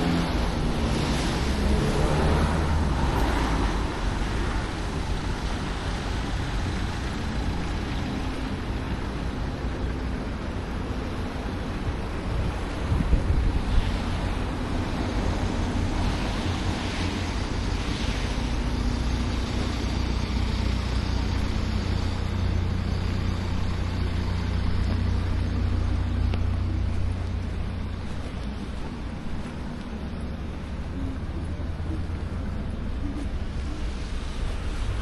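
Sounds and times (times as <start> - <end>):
traffic passing: 0.0 - 35.0.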